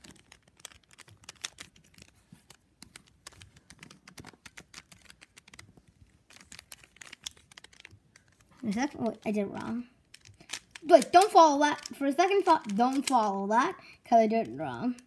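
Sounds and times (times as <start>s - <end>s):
plastic puzzle cube clicking: 0.0s - 13.4s.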